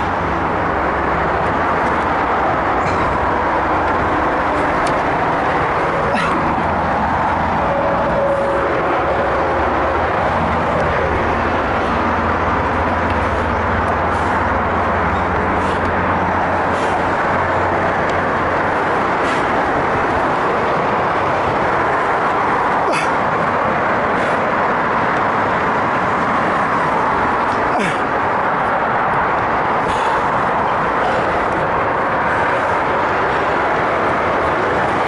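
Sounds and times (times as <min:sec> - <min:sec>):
wind rushing on microphone: 0:00.0 - 0:35.0.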